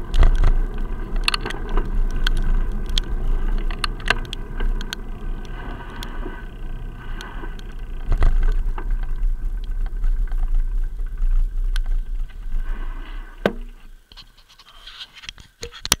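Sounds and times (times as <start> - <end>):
bicycle riding rumble: 0.0 - 14.7
clicks and rattles over bumps: 0.0 - 16.0.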